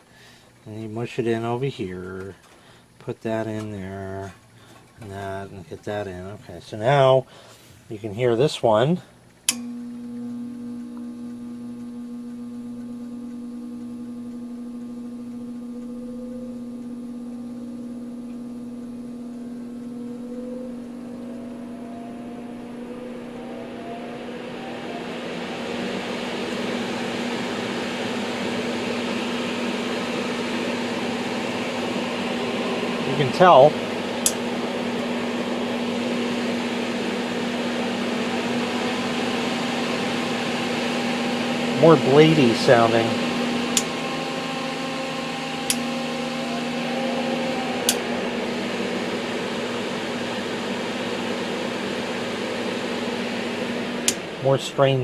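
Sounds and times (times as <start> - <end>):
fume extractor fan running: 0.0 - 55.0.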